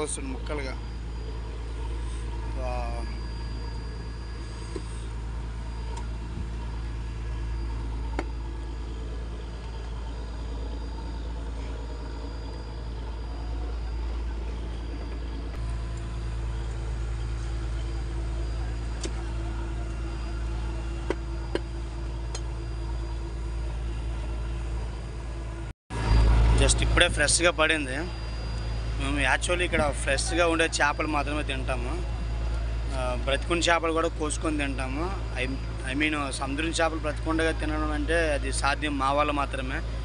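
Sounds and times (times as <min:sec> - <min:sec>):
boat engine humming: 0:00.0 - 0:40.0.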